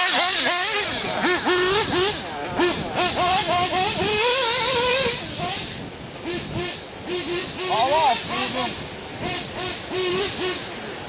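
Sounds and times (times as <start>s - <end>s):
small model engines revving: 0.0s - 11.0s.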